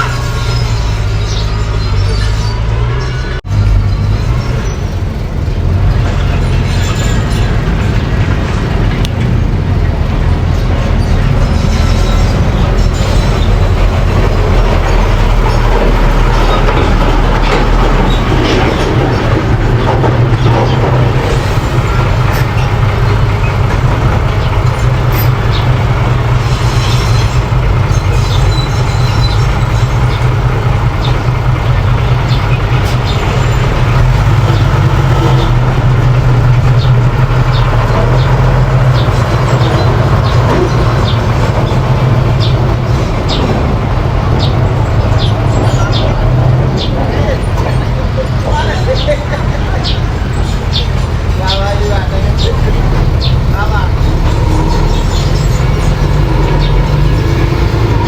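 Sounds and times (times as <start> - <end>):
bulldozer engine drone: 0.0 - 58.0
tracks clattering and squealing: 0.0 - 58.0.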